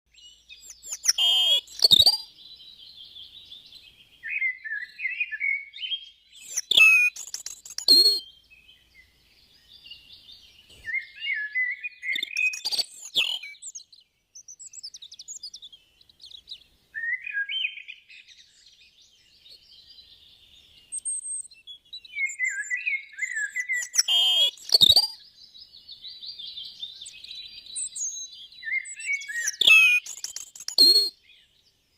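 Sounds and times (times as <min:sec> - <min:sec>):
robin singing: 0:00.1 - 0:31.9.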